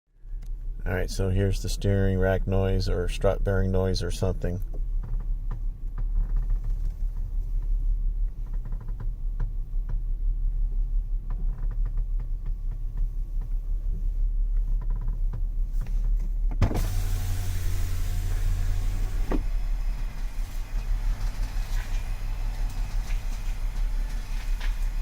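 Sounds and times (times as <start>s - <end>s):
power steering hum: 0.1s - 25.0s
rushing noise with deep hum: 0.1s - 25.0s
steering creaks and clicks: 0.2s - 25.0s.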